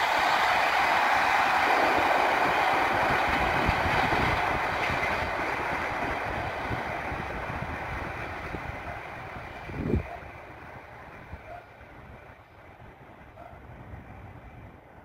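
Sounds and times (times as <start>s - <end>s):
train running on rails: 0.0s - 15.0s.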